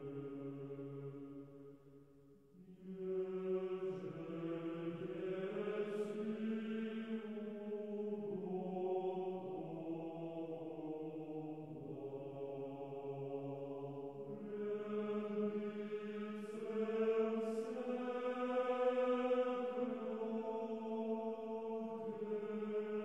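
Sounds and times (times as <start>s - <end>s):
slow vocal chanting: 2.5s - 23.0s.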